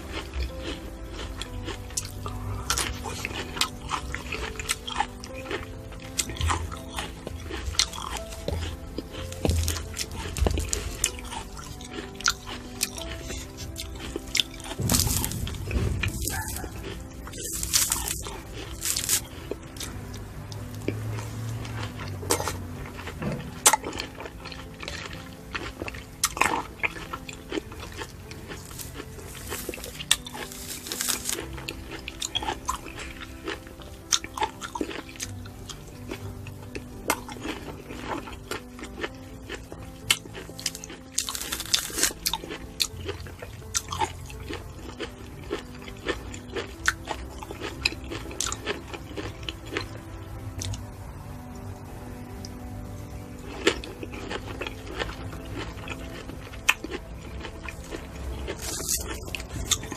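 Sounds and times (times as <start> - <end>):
background music: 0.0 - 59.9
biting and chewing citrus: 0.0 - 59.9.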